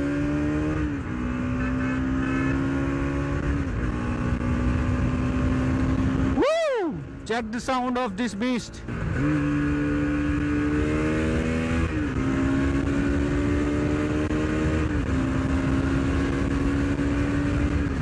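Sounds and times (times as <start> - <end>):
motorcycle engine accelerating: 0.0 - 7.2, 8.4 - 18.0
wind and road noise: 0.0 - 18.0.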